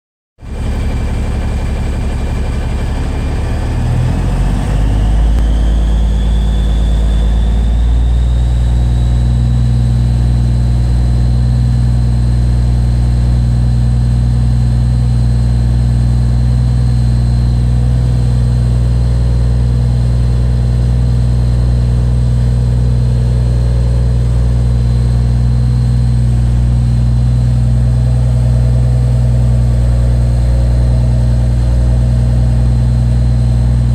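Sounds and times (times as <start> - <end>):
diesel truck engine running: 0.4 - 33.9
high whine: 0.5 - 33.9.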